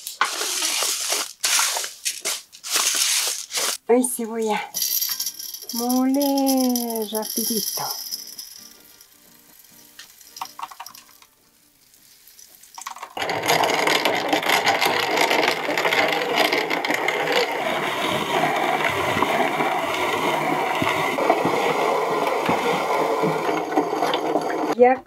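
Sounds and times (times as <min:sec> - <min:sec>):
hand mill grinding grain: 0:00.0 - 0:03.8, 0:04.8 - 0:11.3, 0:12.0 - 0:24.8.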